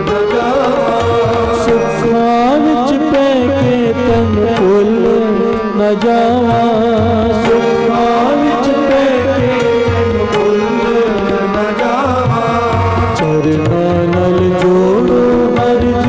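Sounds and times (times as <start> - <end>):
harmonium held tones: 0.0 - 16.0
man singing: 0.0 - 16.0.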